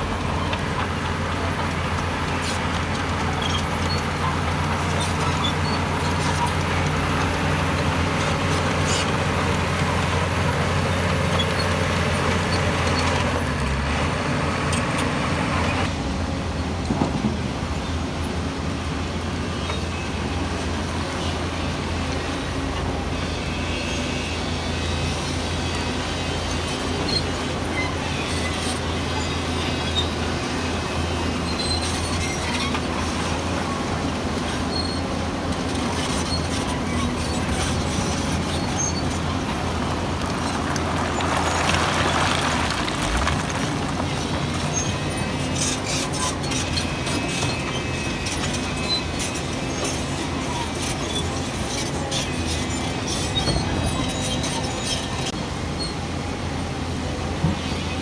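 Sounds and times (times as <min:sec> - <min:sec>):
earthmoving machine diesel engine: 0:00.0 - 0:58.0.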